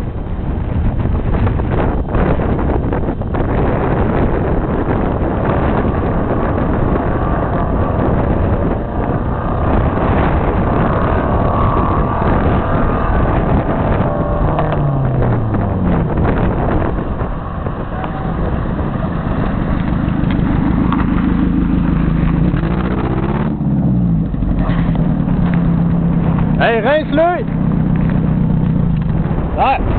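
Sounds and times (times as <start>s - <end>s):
vehicle engine running: 0.0s - 29.9s
wind on microphone: 0.0s - 29.9s.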